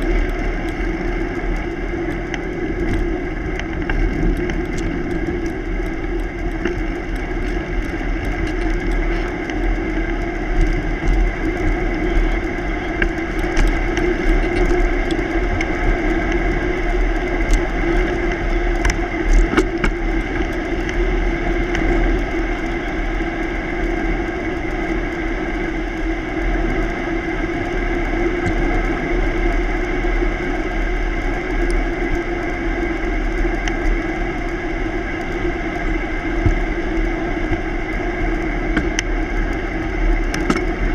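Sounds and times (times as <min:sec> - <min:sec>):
bicycle tyres rolling hum: 0:00.0 - 0:40.9
small clicks and ticks: 0:00.0 - 0:40.9
wind buffeting microphone: 0:00.0 - 0:40.9.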